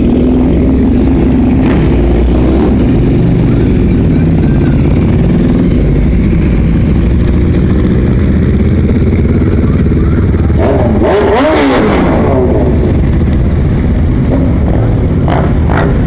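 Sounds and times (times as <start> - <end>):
car engines cruising: 0.0 - 16.0.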